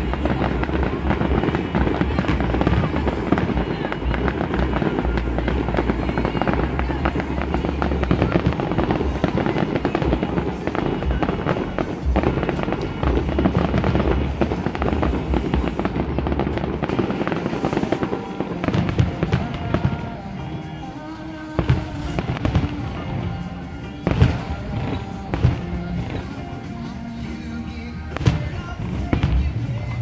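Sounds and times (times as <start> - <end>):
fireworks crackling and popping: 0.0 - 30.0.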